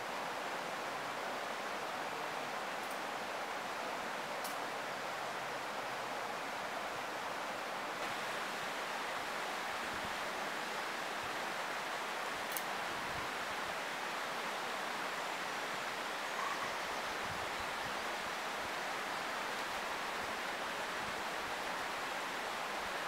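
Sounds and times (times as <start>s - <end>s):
river water rushing over weir: 0.0s - 23.0s.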